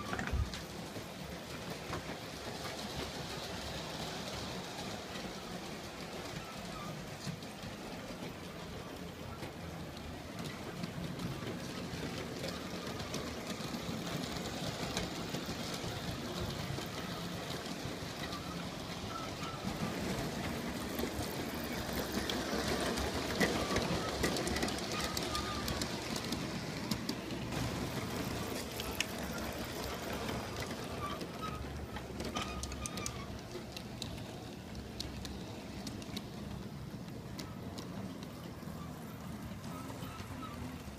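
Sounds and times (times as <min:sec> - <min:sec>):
model train motor hum and rumble: 0:00.0 - 0:40.9
wheels clicking over rail joints: 0:00.0 - 0:40.9.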